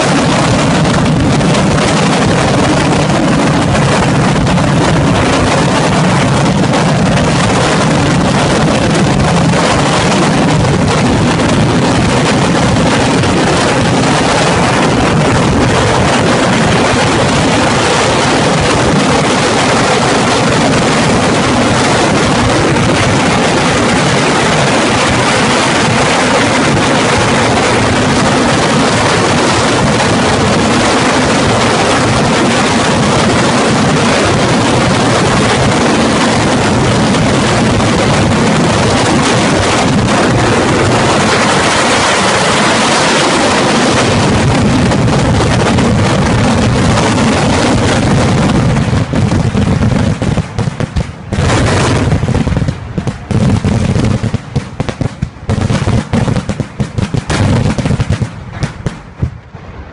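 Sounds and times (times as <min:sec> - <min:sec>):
fireworks crackling and banging: 0:00.0 - 0:59.9.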